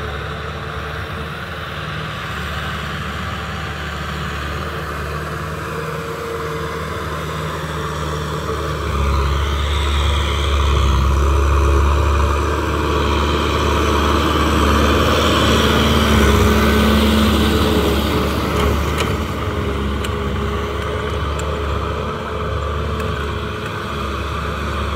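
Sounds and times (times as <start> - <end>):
tractor diesel engine under load: 0.0 - 24.9.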